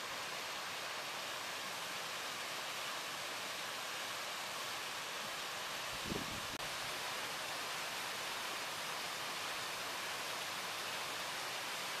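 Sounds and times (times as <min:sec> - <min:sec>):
water rushing down cascade: 0:00.0 - 0:12.0.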